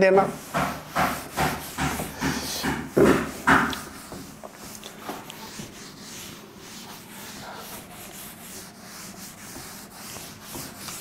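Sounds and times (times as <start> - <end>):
duster wiping chalkboard: 0.0 - 11.0.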